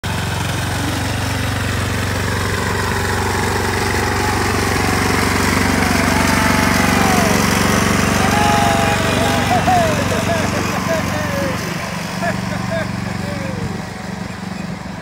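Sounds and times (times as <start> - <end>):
ride-on lawn mower engine: 0.0 - 15.0.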